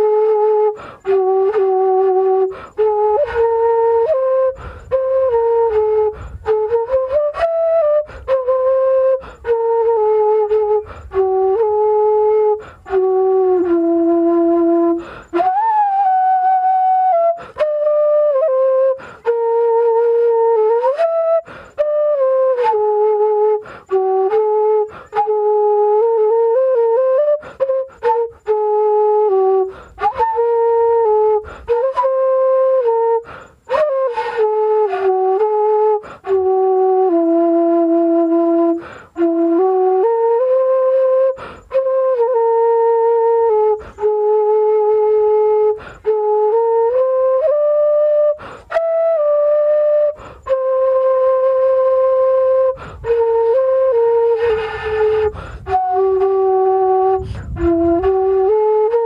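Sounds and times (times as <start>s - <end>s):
bamboo flute melody: 0.0s - 59.0s.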